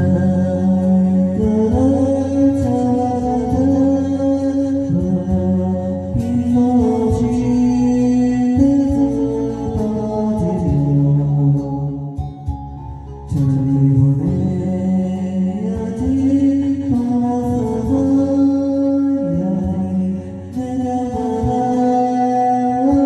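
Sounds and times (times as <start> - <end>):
instrumental ballad backing track: 0.0 - 23.0.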